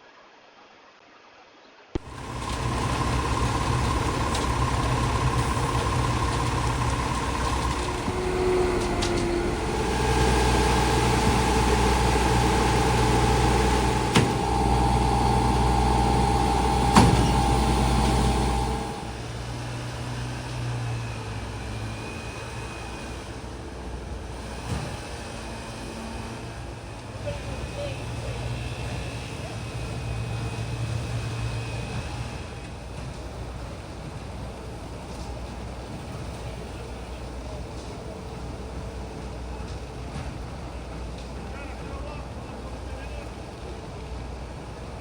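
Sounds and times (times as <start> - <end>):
heavy engine rumbling and whining: 2.0 - 45.0.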